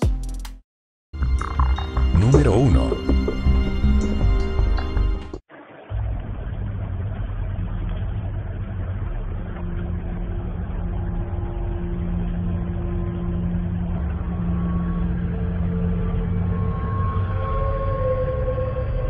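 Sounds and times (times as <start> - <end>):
low rumbling hum: 1.2 - 19.0.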